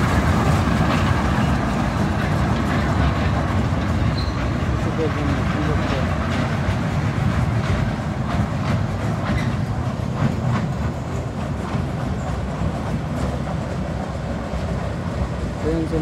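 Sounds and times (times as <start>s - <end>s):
ride train rumbling: 0.0s - 16.0s
wheels clacking on rails: 0.0s - 16.0s.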